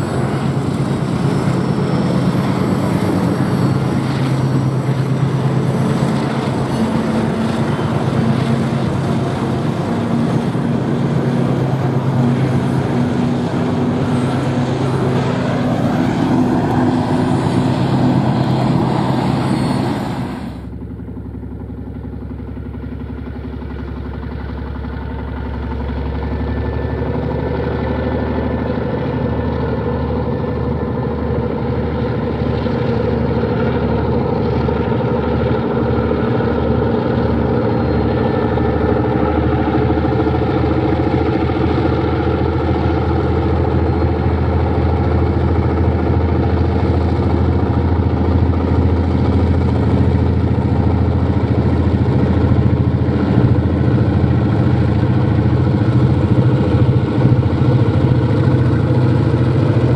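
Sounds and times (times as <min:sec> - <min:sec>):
diesel locomotive engines: 0:00.0 - 0:59.9
low pulsing rumble: 0:00.0 - 0:59.9.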